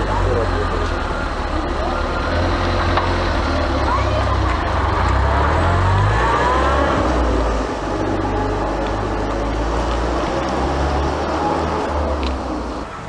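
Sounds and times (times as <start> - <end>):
heavy low rumble: 0.0 - 12.9
vehicle engine running: 0.0 - 13.0.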